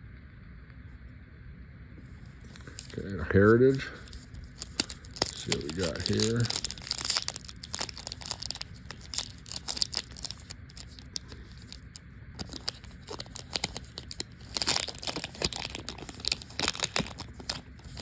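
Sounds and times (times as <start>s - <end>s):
wrapper tearing and crinkling: 2.2s - 18.0s.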